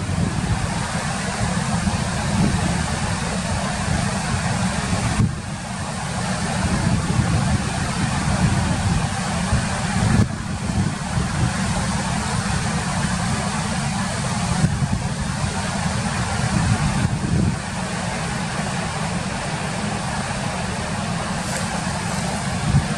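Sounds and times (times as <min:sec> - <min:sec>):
stream rushing over rocks: 0:00.0 - 0:22.9.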